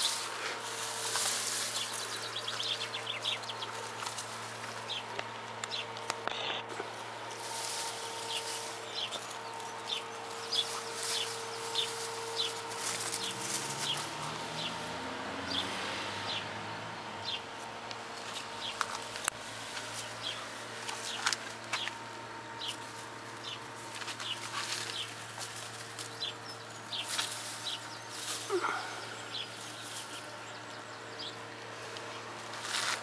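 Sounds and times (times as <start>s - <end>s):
light rustling: 0.0s - 14.3s, 18.1s - 30.4s
steady low hum: 0.0s - 33.0s.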